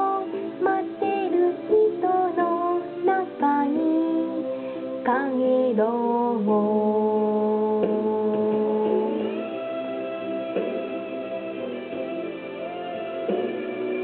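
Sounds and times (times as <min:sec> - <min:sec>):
karaoke backing music: 0:00.0 - 0:14.0.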